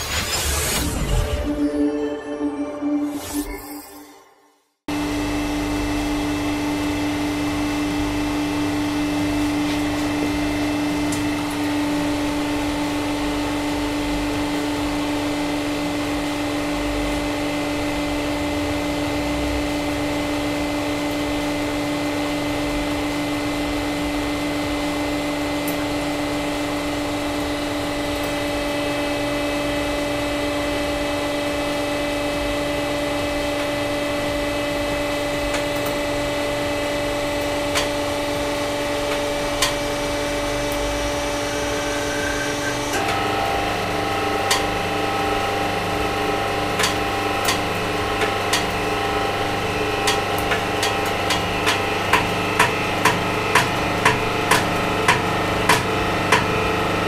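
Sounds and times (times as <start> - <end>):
hydraulic pump humming: 4.9 - 57.0.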